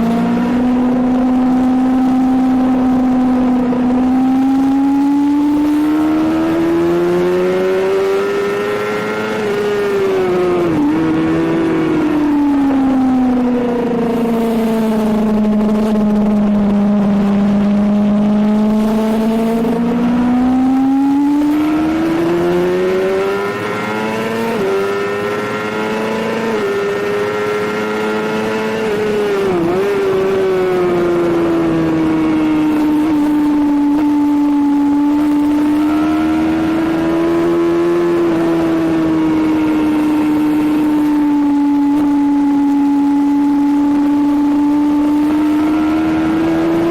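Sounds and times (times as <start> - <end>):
motorcycle engine at high revs: 0.0 - 46.9
wind and road noise: 0.0 - 46.9.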